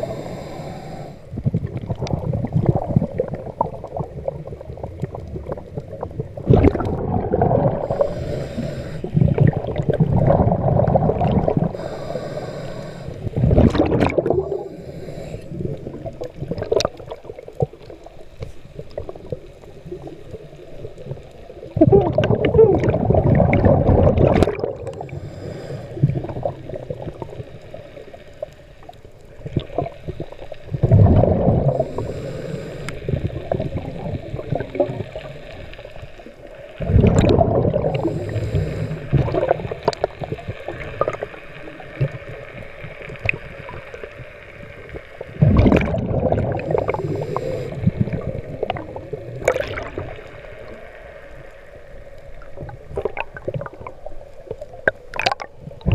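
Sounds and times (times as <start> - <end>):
rushing gurgling water underwater: 0.0 - 55.9.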